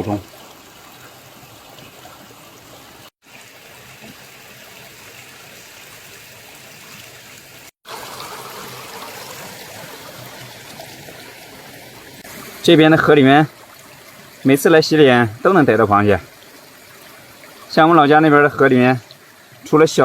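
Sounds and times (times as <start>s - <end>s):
small river flowing: 0.0s - 20.0s.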